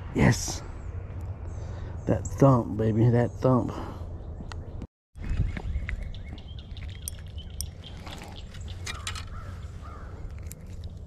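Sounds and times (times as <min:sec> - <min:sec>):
small birds chirping: 0:00.2 - 0:11.0.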